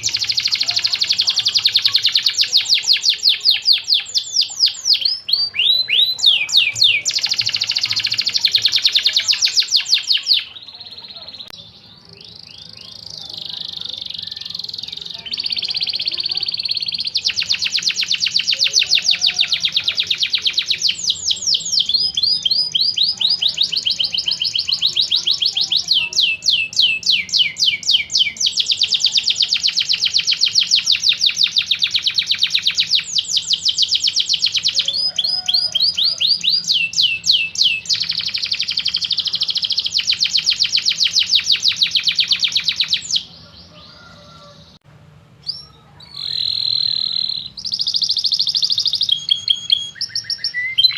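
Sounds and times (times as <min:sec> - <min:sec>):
canary singing fast trills: 0:00.0 - 0:44.8, 0:45.4 - 0:50.9.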